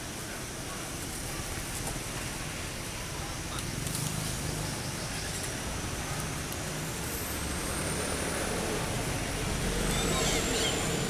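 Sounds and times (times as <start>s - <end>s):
motor vehicle rumble: 0.0s - 11.0s.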